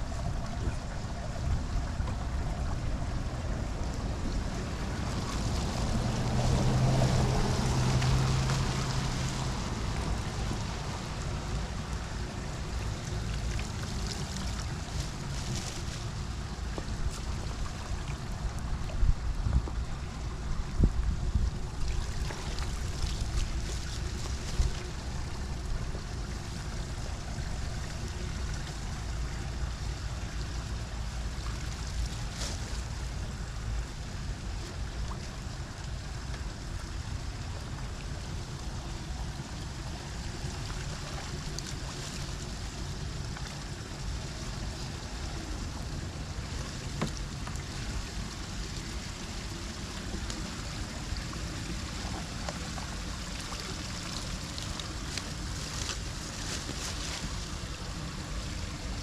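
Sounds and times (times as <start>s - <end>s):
water draining into storm drain: 0.0s - 59.0s.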